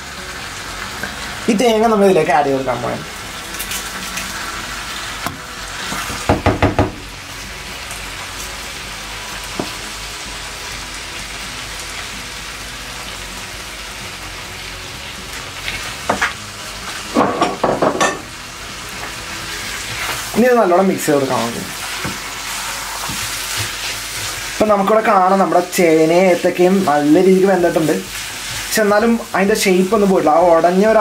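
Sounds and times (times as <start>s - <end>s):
curry sizzling in a pan: 0.0s - 31.0s.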